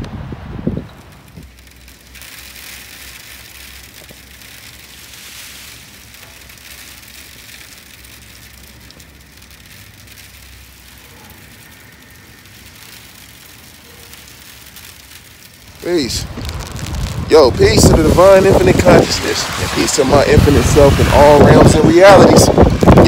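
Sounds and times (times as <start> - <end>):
rain sleet and hail falling: 0.0 - 23.0.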